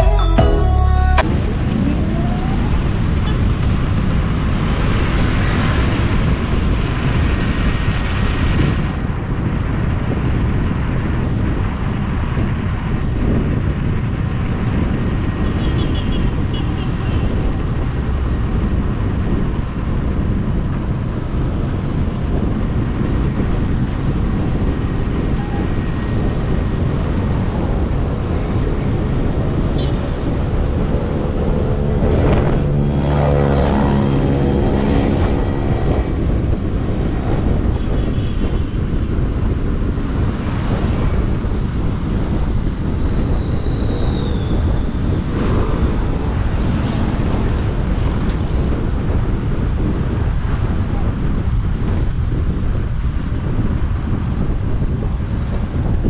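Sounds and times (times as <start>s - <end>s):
road and tyre noise: 0.0s - 56.0s
wind buffeting microphone: 1.2s - 56.0s.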